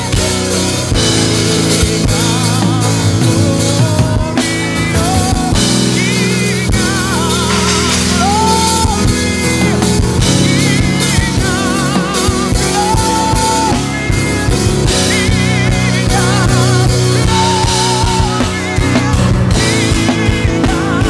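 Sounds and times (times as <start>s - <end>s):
drum kit with cymbals: 0.0s - 21.0s
keyboard and bass chords: 0.0s - 21.0s
singers holding long notes: 0.0s - 21.0s.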